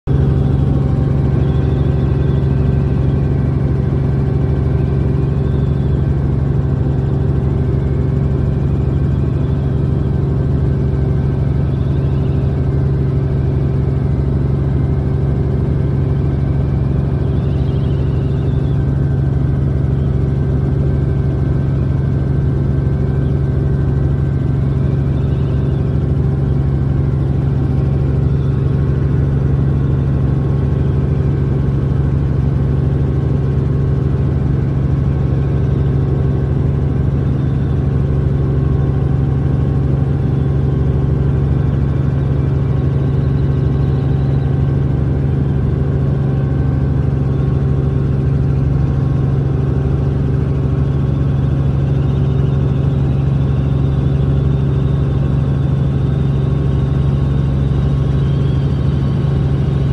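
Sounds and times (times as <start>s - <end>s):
helicopter engine and rotors: 0.0s - 59.9s.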